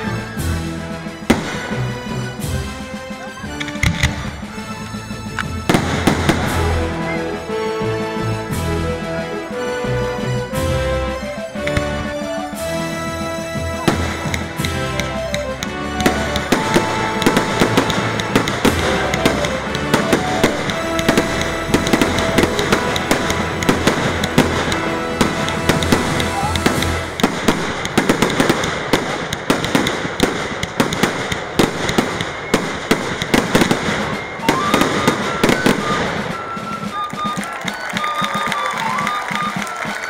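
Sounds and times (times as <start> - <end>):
fireworks bangs and crackles: 0.0 - 40.0
music: 0.0 - 40.0.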